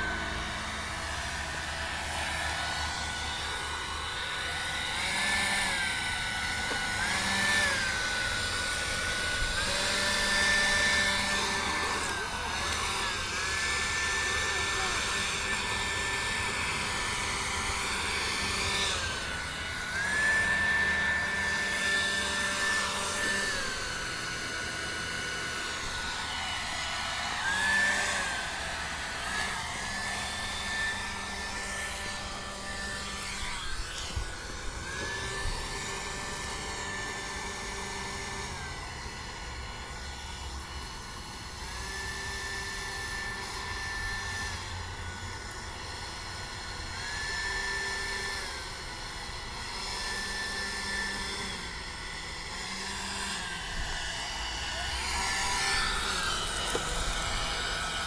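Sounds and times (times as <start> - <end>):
leaf blower whining: 0.0 - 58.0.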